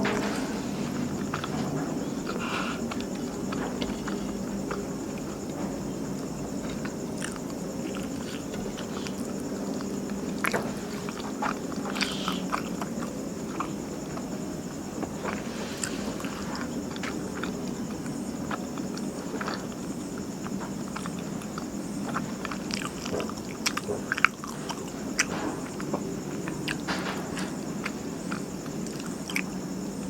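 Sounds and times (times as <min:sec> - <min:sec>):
steady low hum: 0:00.0 - 0:30.0
squishy chewing and mouth clicks: 0:01.0 - 0:29.6.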